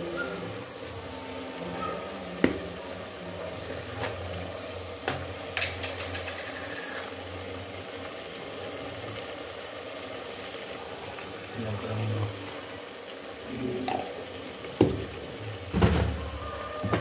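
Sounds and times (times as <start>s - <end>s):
spice paste sizzling in a pot: 0.0s - 17.0s.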